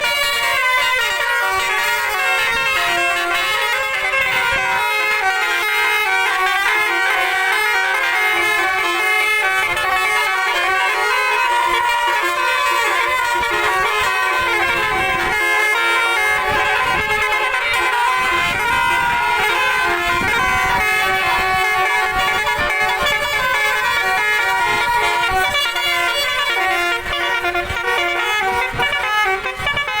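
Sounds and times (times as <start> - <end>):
musical air horn playing a tune: 0.0 - 30.0.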